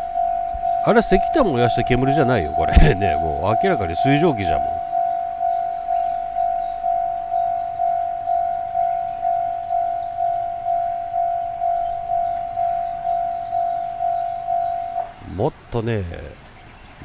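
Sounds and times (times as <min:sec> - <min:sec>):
level crossing warning bell: 0:00.0 - 0:15.2.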